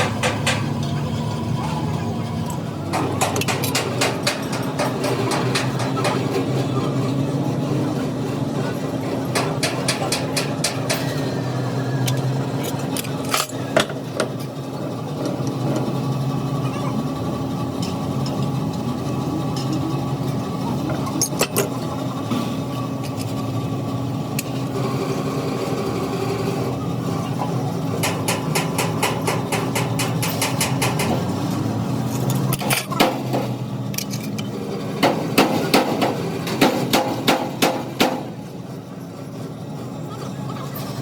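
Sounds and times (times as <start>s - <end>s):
engine hum: 0.0s - 41.0s.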